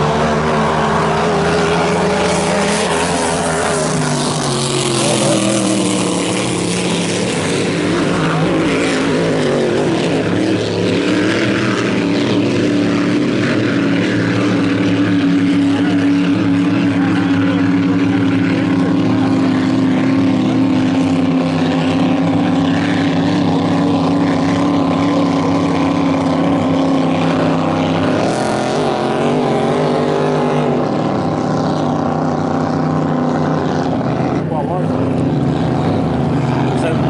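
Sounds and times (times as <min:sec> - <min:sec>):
boat engine running hard: 0:00.0 - 0:37.0.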